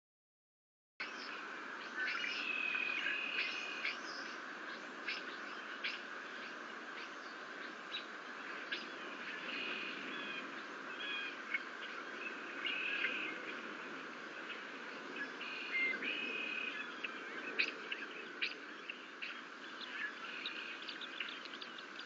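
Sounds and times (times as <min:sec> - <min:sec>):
birds chirping and whistling: 0:01.0 - 0:13.6, 0:14.5 - 0:22.0
background hiss and hum: 0:01.0 - 0:22.0.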